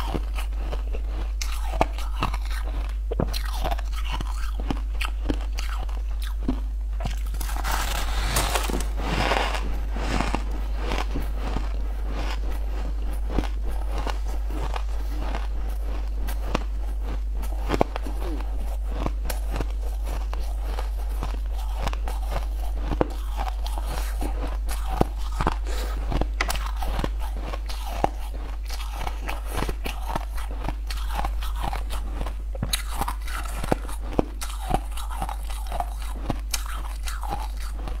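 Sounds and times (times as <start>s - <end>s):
chewing and crunching ice: 0.0s - 38.0s
steady low hum: 0.0s - 38.0s.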